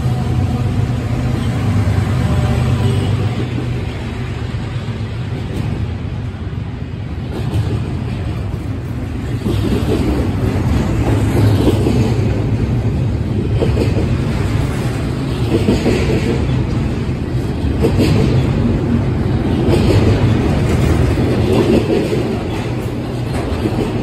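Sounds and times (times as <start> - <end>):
diesel locomotive drone: 0.0 - 24.0
freight train wheels rumbling: 0.0 - 24.0.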